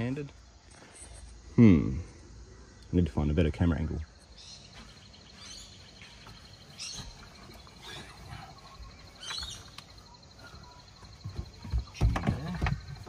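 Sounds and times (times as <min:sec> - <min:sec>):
birds chirping: 0:00.0 - 0:13.0
faint insect trill: 0:00.0 - 0:13.0.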